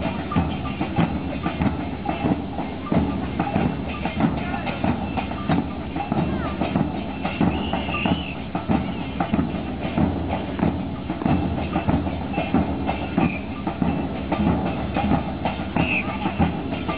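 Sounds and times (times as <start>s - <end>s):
bass drums and cymbals: 0.0s - 16.9s.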